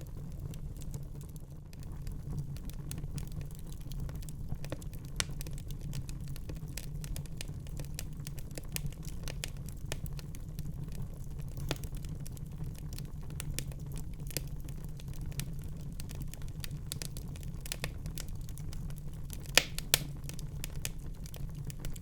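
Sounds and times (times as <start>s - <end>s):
fire snapping and popping: 0.0s - 22.0s
low rumble of flame: 0.0s - 22.0s.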